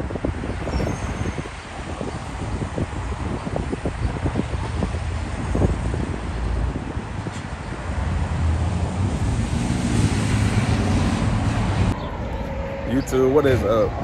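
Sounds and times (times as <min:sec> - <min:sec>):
cars driving past: 0:00.3 - 0:14.0.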